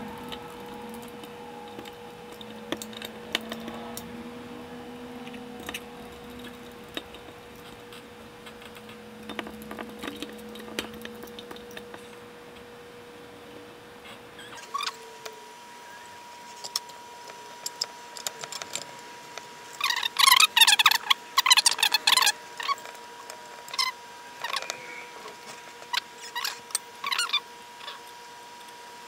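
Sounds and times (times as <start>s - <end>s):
faint hum: 0.0s - 29.0s.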